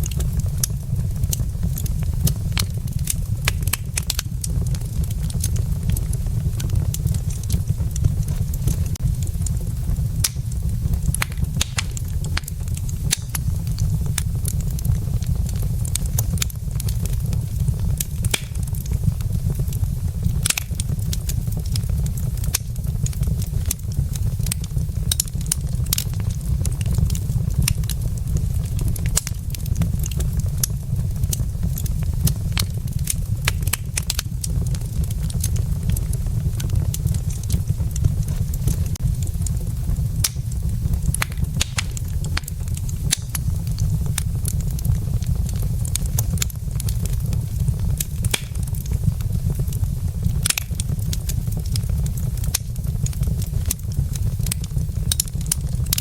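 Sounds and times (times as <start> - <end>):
steady low rumble: 0.0 - 56.0
wood fire crackling and popping: 0.0 - 56.0.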